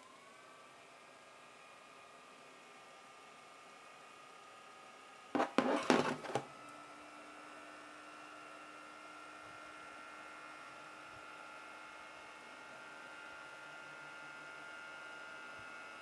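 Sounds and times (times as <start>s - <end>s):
small electric fan whine: 0.0s - 16.0s.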